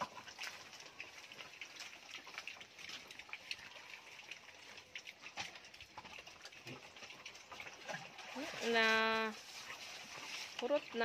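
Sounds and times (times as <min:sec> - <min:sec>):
piglets chewing and slurping: 0:00.0 - 0:11.0.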